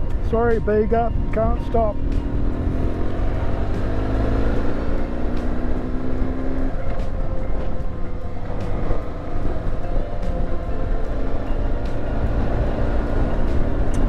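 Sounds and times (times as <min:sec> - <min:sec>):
motorcycle engine running: 0:00.0 - 0:14.0
road and wind rush: 0:00.0 - 0:14.0.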